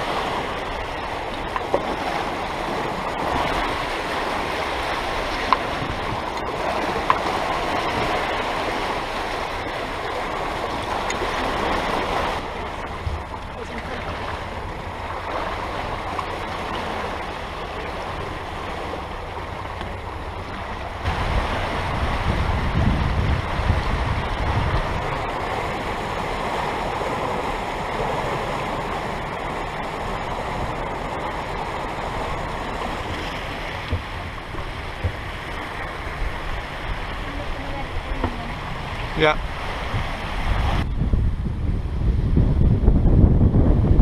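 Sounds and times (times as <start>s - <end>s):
water rushing along boat hull: 0.0s - 44.0s.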